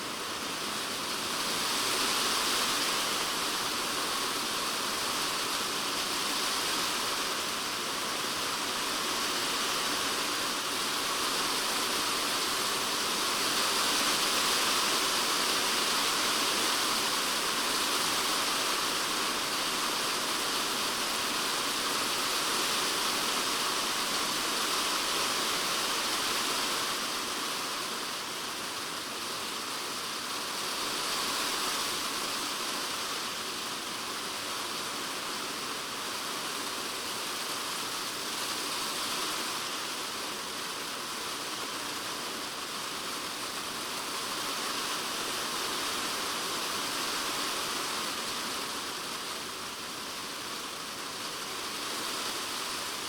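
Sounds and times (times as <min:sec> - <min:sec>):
rain on plastic shed roof: 0:00.0 - 0:53.0.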